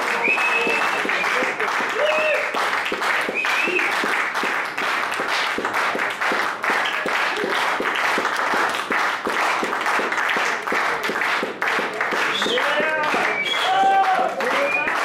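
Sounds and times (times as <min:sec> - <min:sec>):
audience applauding: 0:00.0 - 0:15.0
sharp evenly spaced claps: 0:00.0 - 0:15.0.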